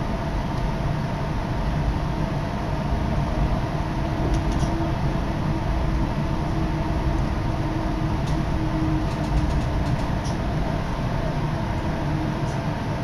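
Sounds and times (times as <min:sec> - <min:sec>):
monorail running rumble: 0:00.0 - 0:13.0.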